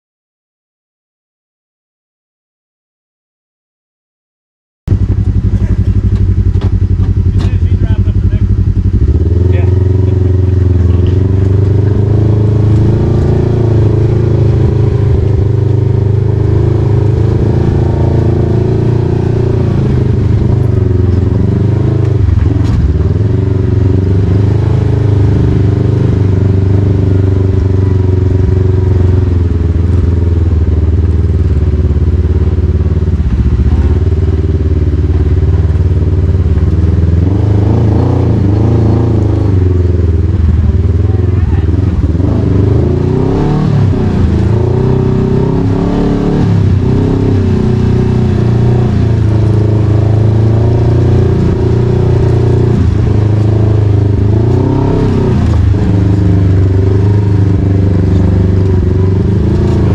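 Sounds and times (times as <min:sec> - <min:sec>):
off-road vehicle engine low revs: 0:04.9 - 0:59.9.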